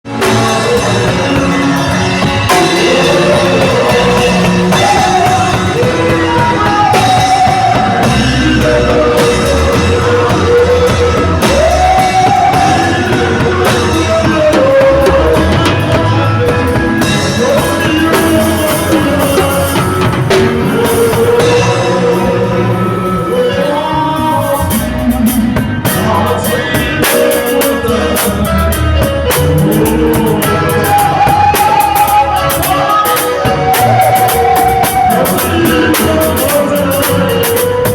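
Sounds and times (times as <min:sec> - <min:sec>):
live band playing: 0:00.0 - 0:37.9
person singing: 0:00.0 - 0:37.9.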